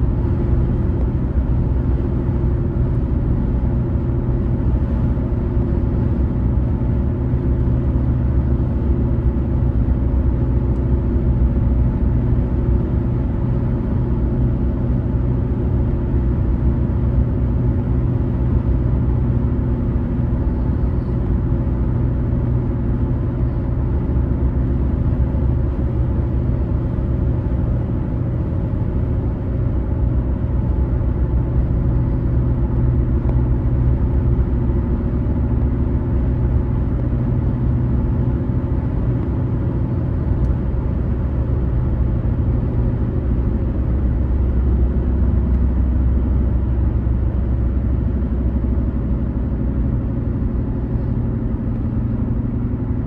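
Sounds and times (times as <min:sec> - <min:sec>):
car interior road rumble: 0:00.0 - 0:53.0
engine hum: 0:00.0 - 0:53.0.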